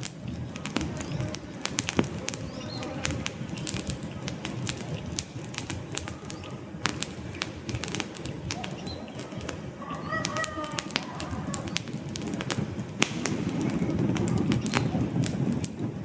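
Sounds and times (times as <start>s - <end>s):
logs crackling and popping: 0.0s - 16.0s
low rush of flame: 0.0s - 16.0s.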